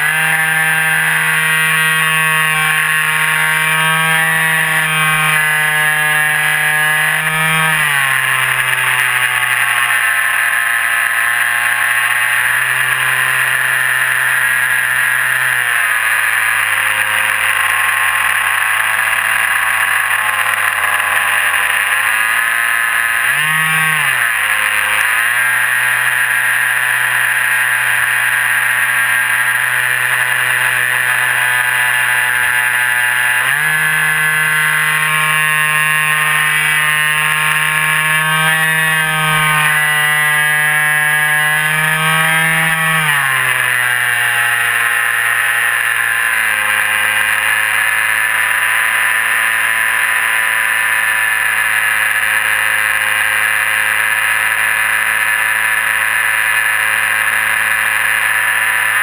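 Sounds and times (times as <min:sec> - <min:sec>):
model airplane motor whining: 0:00.0 - 0:59.0.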